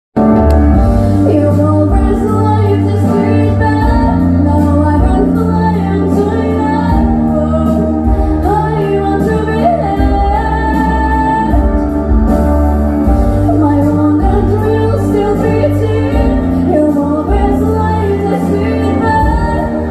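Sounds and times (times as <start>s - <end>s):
recorded backing track: 0.2s - 19.9s.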